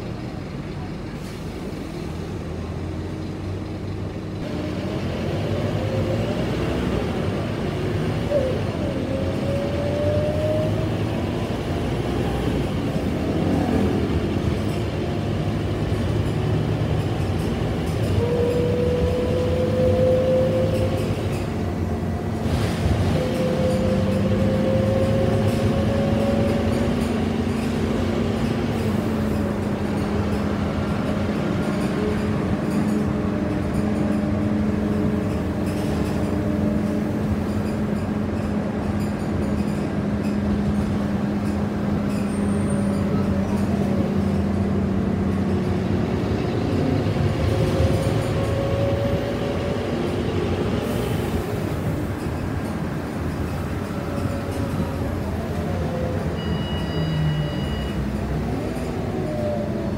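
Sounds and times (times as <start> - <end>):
bus engine pulling away: 0.0 - 59.9.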